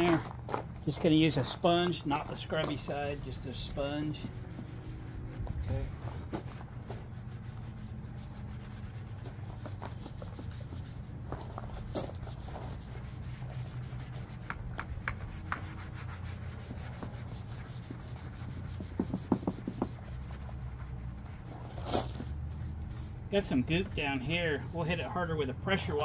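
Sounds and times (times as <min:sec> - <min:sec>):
sponge rubbing plastic cover: 0:02.1 - 0:23.2.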